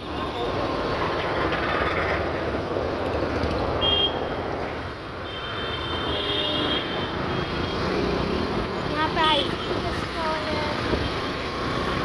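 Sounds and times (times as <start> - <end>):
scooter and motorbike engines: 0.0 - 12.0.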